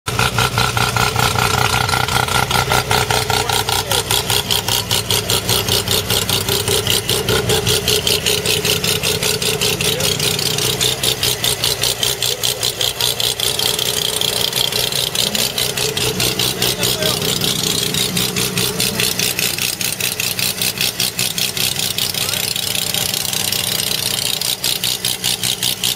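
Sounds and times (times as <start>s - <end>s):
rotary engine idling: 0.1s - 25.9s.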